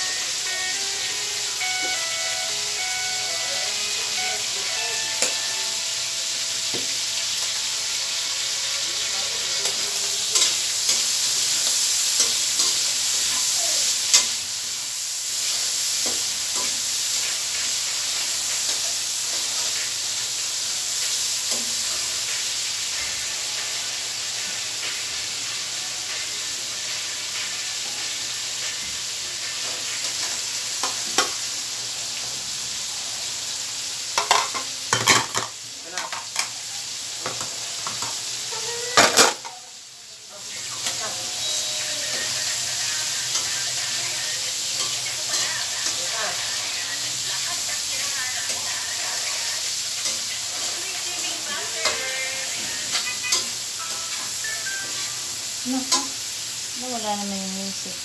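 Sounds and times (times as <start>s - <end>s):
food sizzling in a wok: 0.0s - 58.0s.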